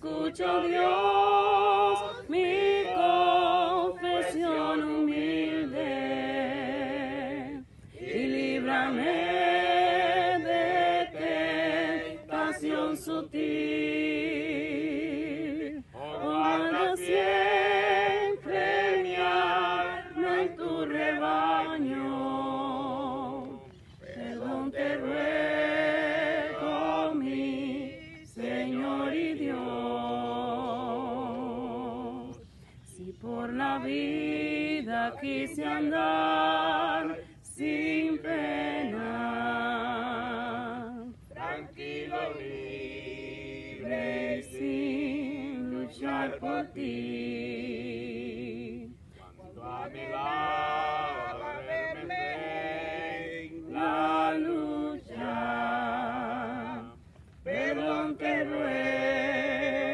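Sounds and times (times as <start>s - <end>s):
group singing a hymn unaccompanied: 0.0s - 59.9s.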